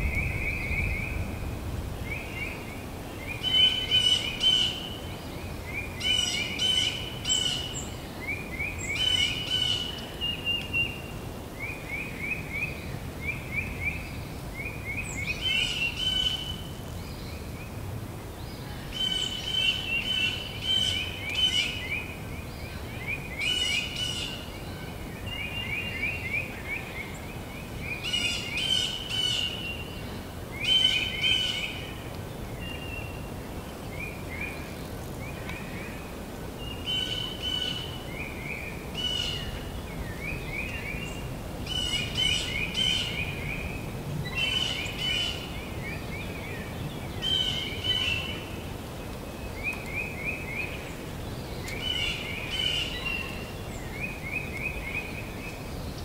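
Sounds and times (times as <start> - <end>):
low background noise: 0.0 - 56.0.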